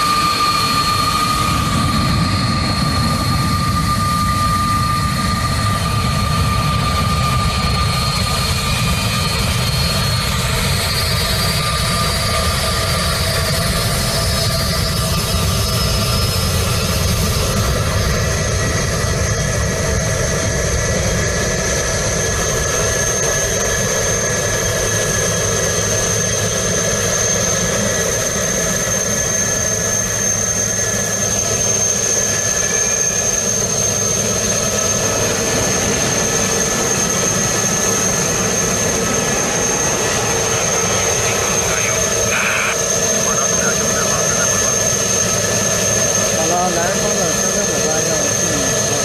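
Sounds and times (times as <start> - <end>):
jet engine high-pitched whine: 0.0 - 49.0
jet engine rumble: 0.0 - 49.0.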